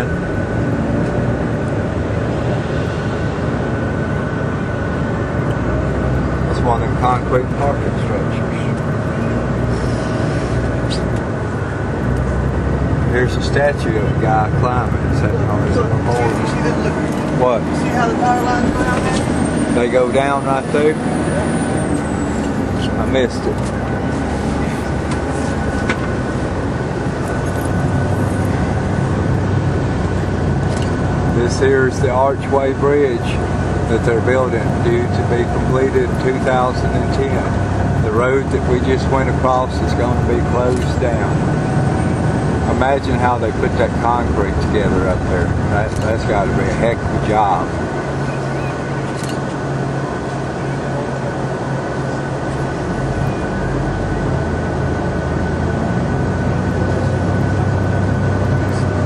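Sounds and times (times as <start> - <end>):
bus engine and road rumble: 0.0 - 59.0
faint constant whine: 0.0 - 59.0.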